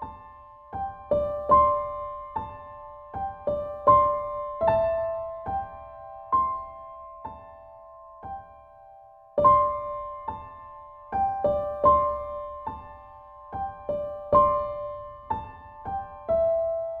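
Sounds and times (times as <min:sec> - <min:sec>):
slow gentle piano melody: 0:00.0 - 0:17.0.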